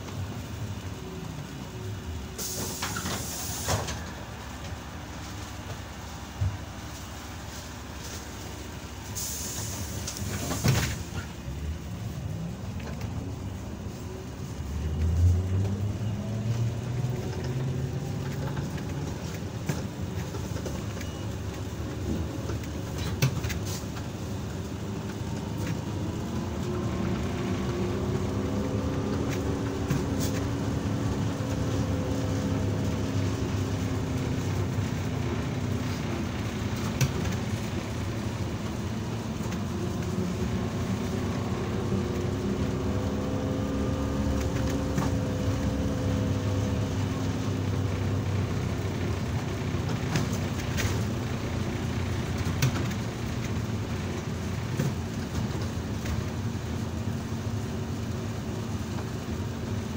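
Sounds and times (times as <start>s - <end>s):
trolleybus running gear rumble: 0.0s - 59.9s.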